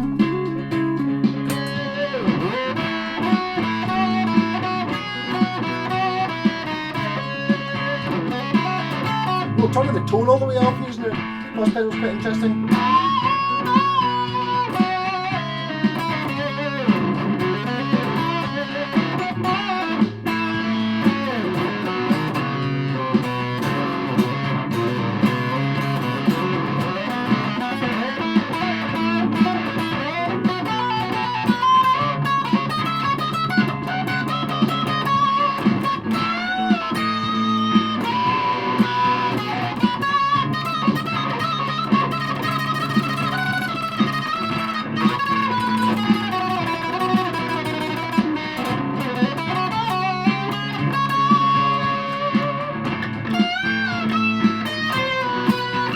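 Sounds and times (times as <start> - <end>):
fuzzy electric guitar notes: 0.0 - 55.9.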